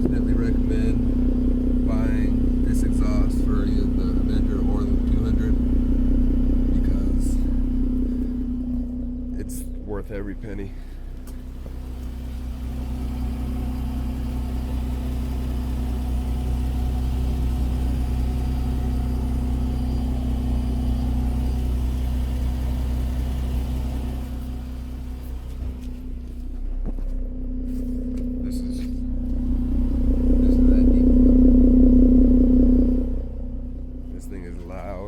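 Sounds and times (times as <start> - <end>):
deep car exhaust note: 0.0 - 35.0.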